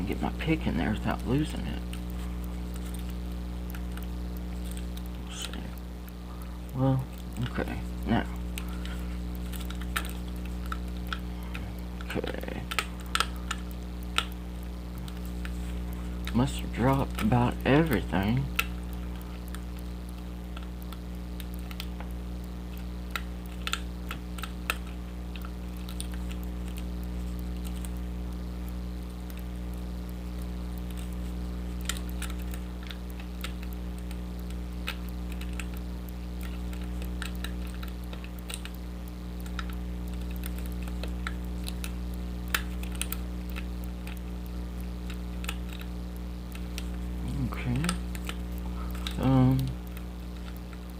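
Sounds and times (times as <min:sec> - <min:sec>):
low hum: 0:00.0 - 0:50.9.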